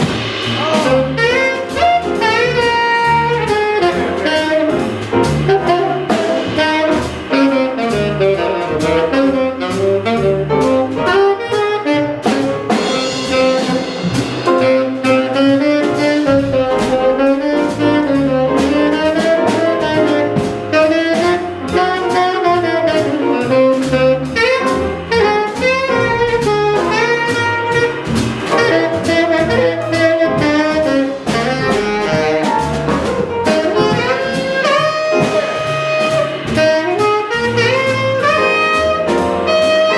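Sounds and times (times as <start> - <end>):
drum kit with cymbals: 0.0 - 39.9
piano: 0.0 - 39.9
upright bass: 0.0 - 39.9
tenor saxophone solo: 0.4 - 39.9.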